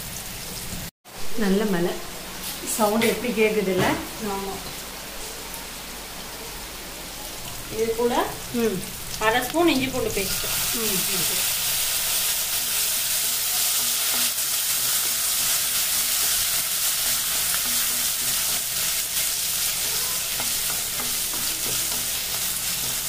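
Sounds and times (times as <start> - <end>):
onion frying in hot oil: 0.0 - 0.9, 1.7 - 23.0.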